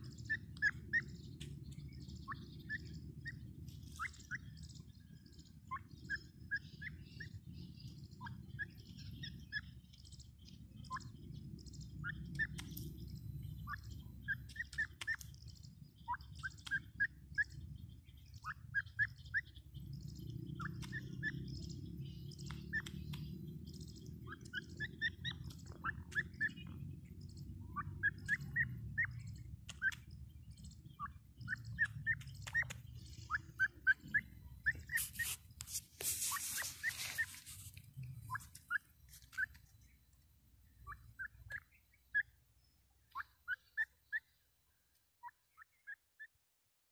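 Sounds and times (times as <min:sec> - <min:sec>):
bird chirping calls: 0:00.0 - 0:46.3.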